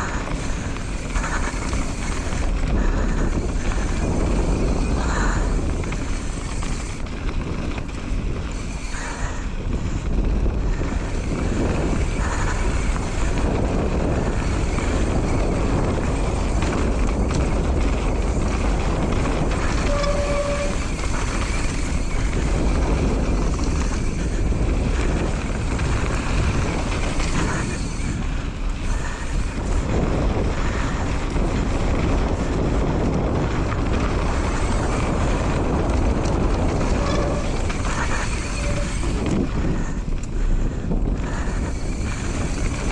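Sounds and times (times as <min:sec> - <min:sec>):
bike rattling and knocking: 0:00.0 - 0:42.9
tyres rumbling on dirt: 0:00.0 - 0:42.9.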